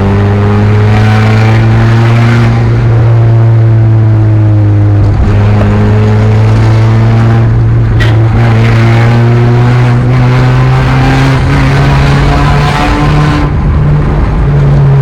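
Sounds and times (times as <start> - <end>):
loud car exhaust drone: 0.0 - 15.0.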